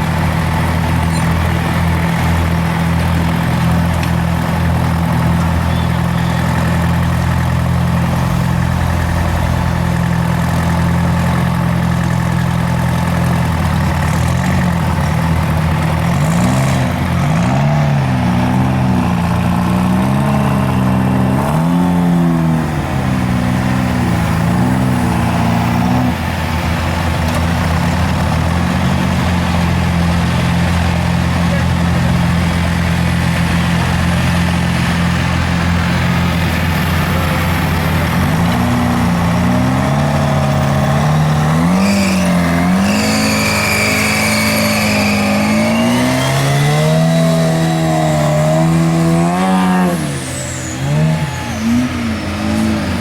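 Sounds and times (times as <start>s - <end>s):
truck engine idling and revving: 0.0s - 53.0s.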